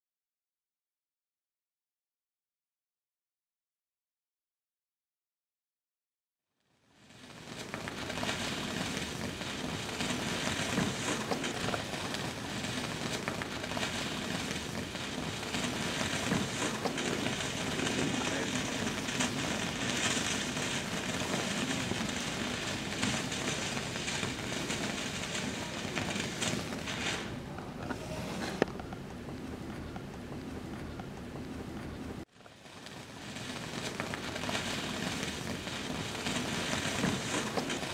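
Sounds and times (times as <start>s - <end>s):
firework fountain hissing and crackling: 6.6s - 37.9s.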